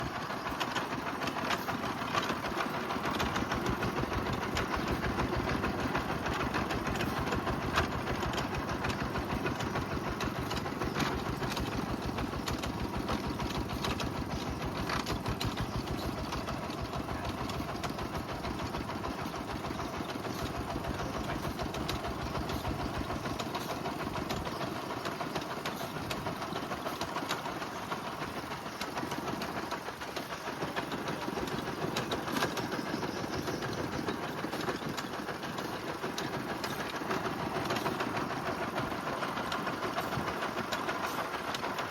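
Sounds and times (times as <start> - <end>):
drilling machine chattering: 0.0 - 41.9.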